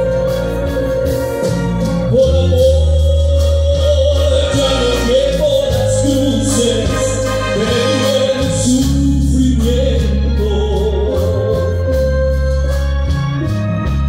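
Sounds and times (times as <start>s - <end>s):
orchestra playing: 0.0s - 14.0s.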